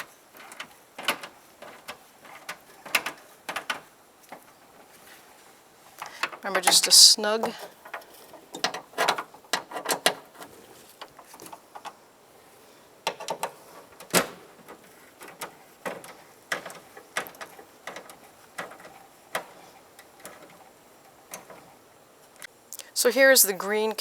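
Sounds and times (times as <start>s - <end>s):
hand tools clicking and knocking: 0.0s - 12.1s, 13.0s - 22.5s.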